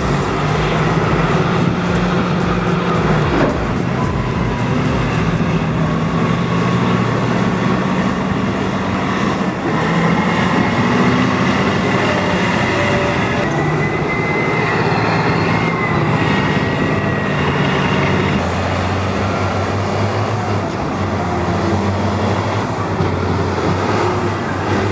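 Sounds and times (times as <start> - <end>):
diesel earthmoving machine engine: 0.0 - 24.9
high squeal: 0.0 - 24.9.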